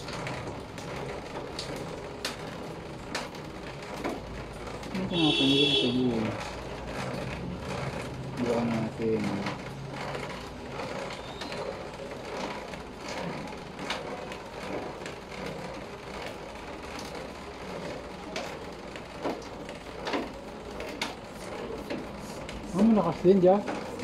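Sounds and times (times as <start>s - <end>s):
bicycle pump strokes: 0.0s - 24.0s.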